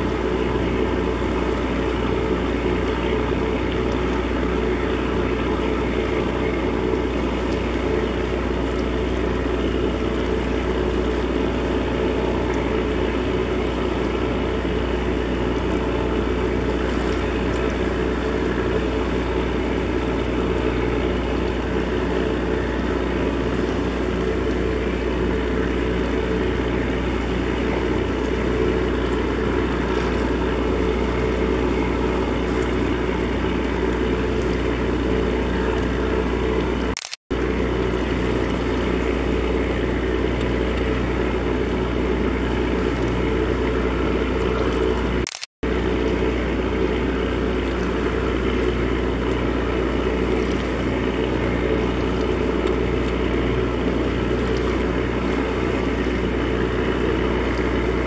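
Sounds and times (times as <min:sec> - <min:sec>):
ship engine drone: 0:00.0 - 0:58.0.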